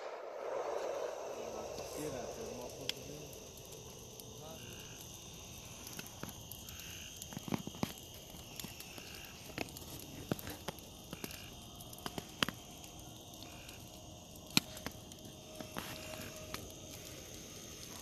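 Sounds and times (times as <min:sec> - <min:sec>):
frogs calling: 0:00.0 - 0:18.0
insects calling: 0:00.0 - 0:18.0.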